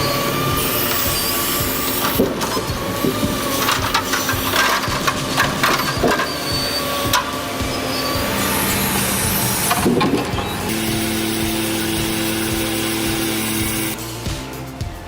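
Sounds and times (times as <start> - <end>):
heavy machinery humming: 0.0 - 15.0.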